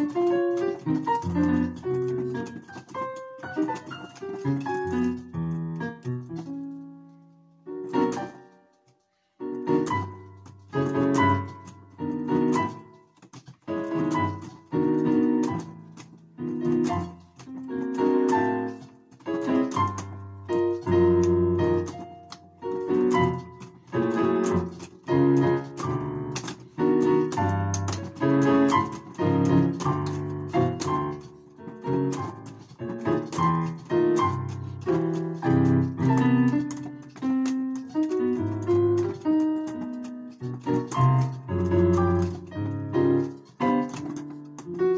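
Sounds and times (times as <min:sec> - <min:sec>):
piano playing dense chords: 0:00.0 - 0:08.7, 0:09.4 - 0:44.9.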